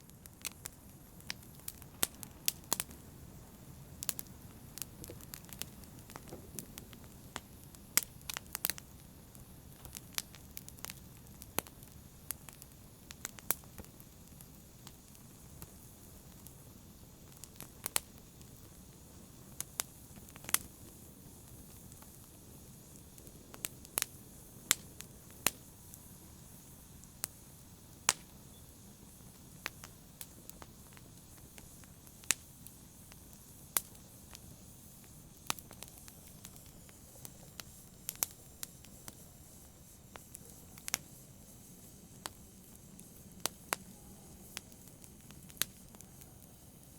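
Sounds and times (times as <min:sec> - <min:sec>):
campfire crackling and popping: 0:00.0 - 0:46.9
hiss of flame: 0:00.0 - 0:46.9.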